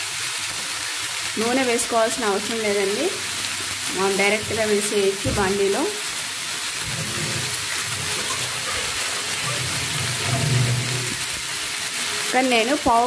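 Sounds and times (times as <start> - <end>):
leaves sizzling in a hot pan: 0.0 - 13.0.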